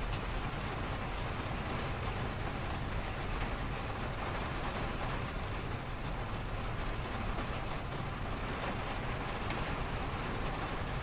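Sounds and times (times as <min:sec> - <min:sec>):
freeway traffic rumble: 0:00.0 - 0:11.0
rain pattering on a window: 0:00.0 - 0:11.0.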